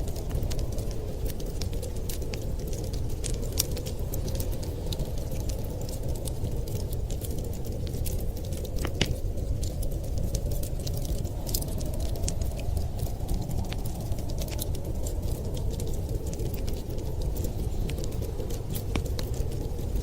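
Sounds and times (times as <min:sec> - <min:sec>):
low rumble of wind: 0:00.0 - 0:20.0
wood fire crackling and popping: 0:00.0 - 0:20.0.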